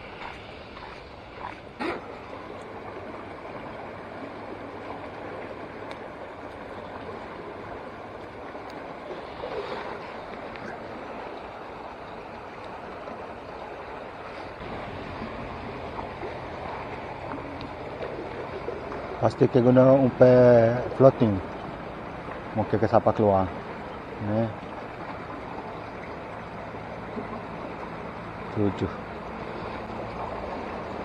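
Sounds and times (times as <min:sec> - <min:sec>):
floodwater rushing: 0:00.0 - 0:31.0
low hum: 0:00.0 - 0:31.0.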